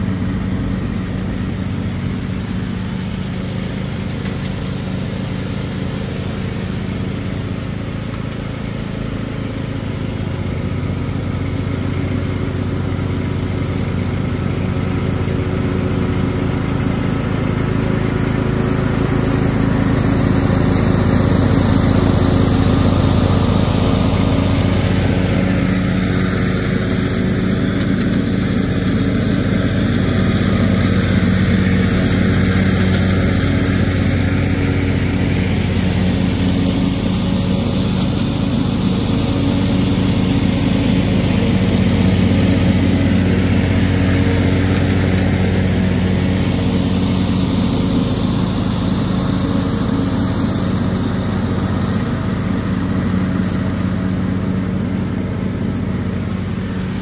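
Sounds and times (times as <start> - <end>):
riding lawn mower engine: 0.0 - 57.0.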